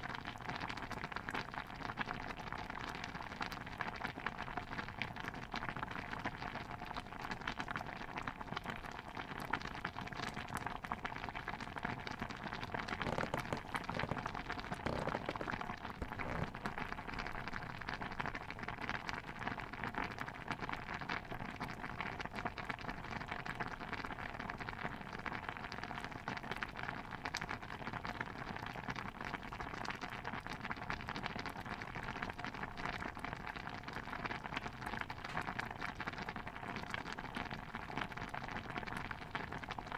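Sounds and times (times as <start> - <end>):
stew bubbling in a pot: 0.0 - 39.9.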